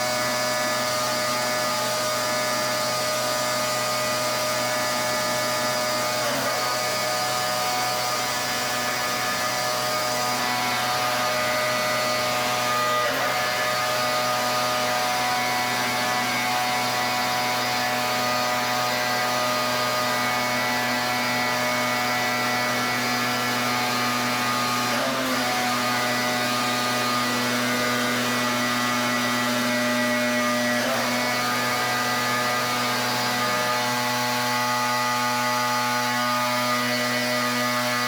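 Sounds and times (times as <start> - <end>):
pressure washer machine hum: 0.0 - 38.0.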